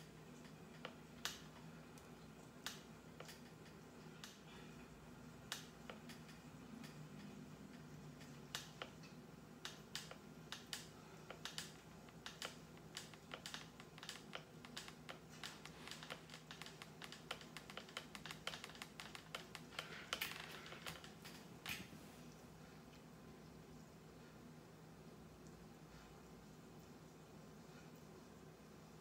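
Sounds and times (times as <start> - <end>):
faint irregular clicking and tapping: 0.0 - 24.4.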